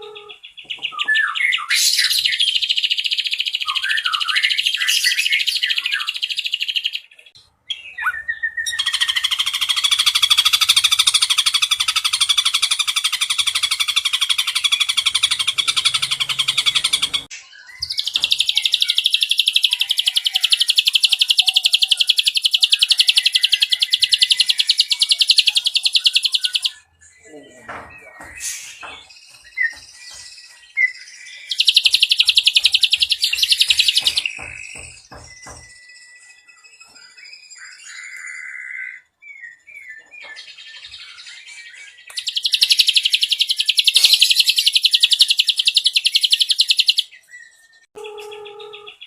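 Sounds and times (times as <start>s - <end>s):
bird singing rapid trills: 8.1s - 49.0s.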